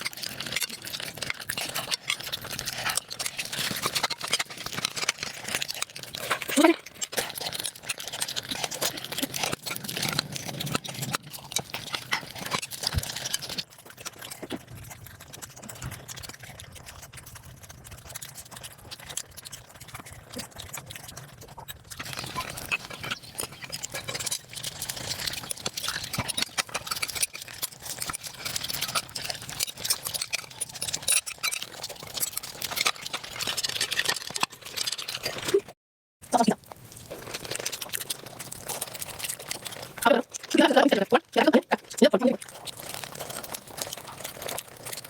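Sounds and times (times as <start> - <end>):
rapid chewing: 0.0 - 45.0.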